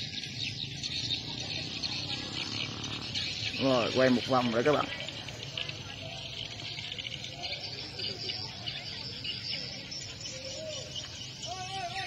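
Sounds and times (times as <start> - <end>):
chorus of high chirping: 0.0 - 12.0
faint distant voices: 0.0 - 12.0.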